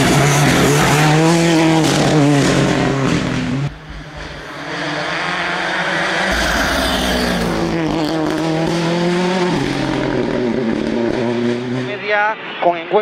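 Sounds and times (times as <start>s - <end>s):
rally car engine revving: 0.0s - 12.1s.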